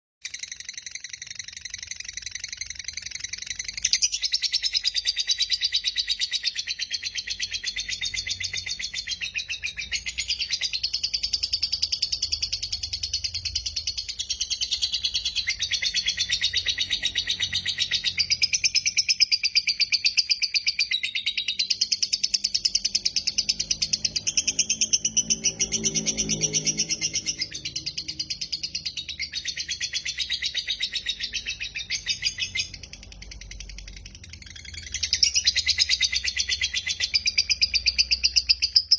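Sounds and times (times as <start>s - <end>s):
bird chattering trill: 0.2s - 38.9s.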